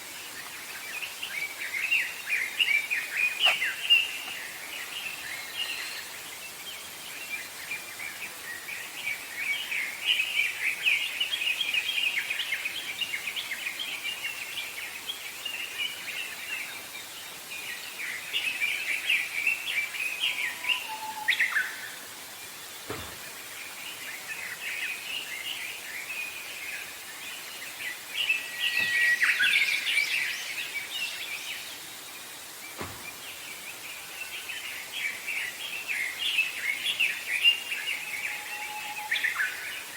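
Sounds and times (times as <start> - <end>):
songbirds chirping and singing: 0.0 - 39.9
steady background hiss: 0.0 - 39.9.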